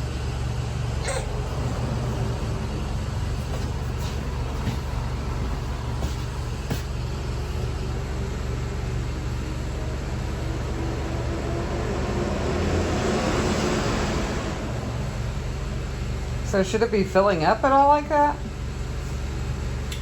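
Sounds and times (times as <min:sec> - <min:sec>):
sewer jetting engine drone: 0:00.0 - 0:20.0.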